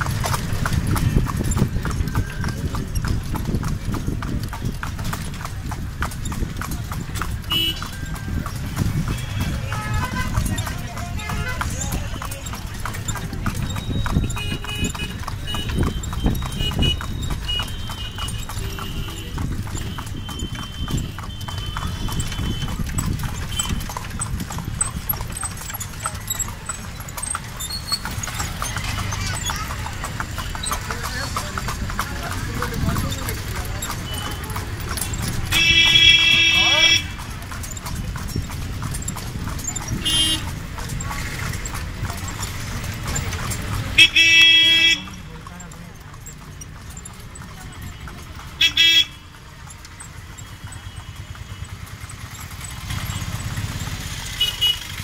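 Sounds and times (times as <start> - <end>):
horse hooves clip-clopping on asphalt: 0.0 - 55.0
low road rumble: 0.0 - 55.0.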